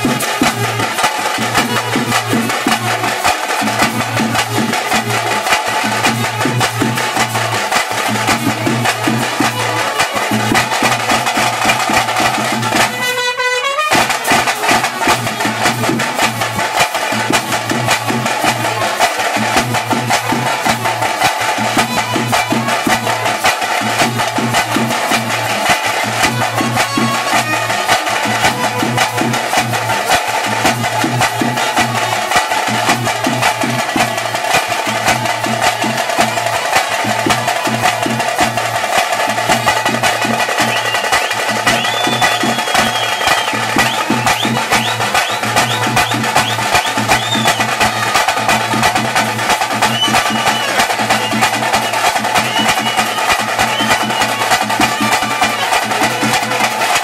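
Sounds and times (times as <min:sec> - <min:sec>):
drums beaten fast: 0:00.0 - 0:57.0.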